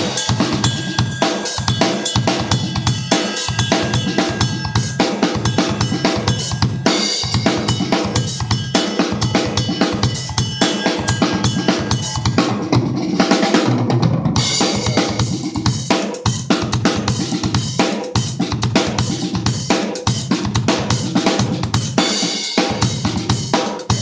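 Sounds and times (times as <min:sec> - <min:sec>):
drum kit groove: 0:00.0 - 0:24.0.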